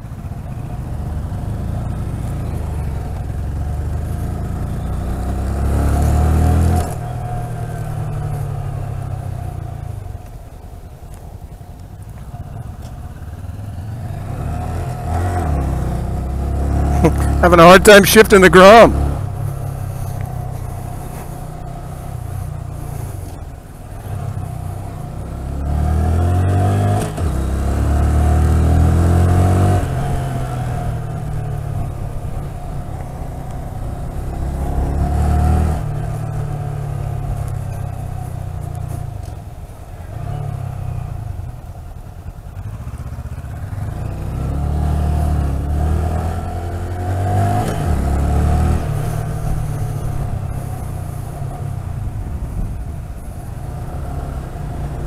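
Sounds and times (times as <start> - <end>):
motorcycle engine revving: 0.0 - 10.1, 12.1 - 55.0.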